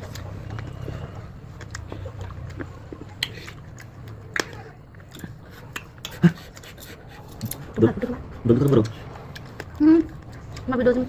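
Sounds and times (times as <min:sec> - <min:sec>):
person chewing fruit: 0:00.0 - 0:10.7.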